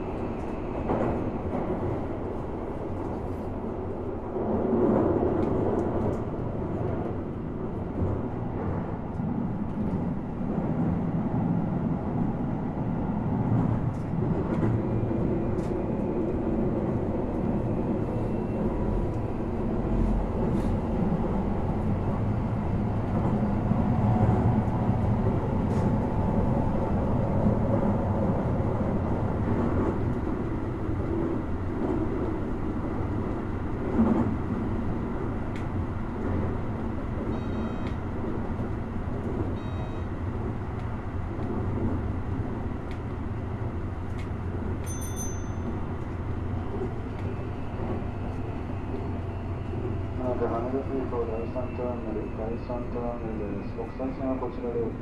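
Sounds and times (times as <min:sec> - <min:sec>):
train rumble from inside car: 0:00.0 - 0:55.0.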